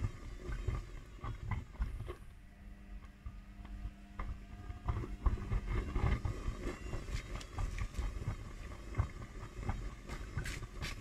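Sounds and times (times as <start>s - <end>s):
washing machine tumbling: 0.0s - 11.0s.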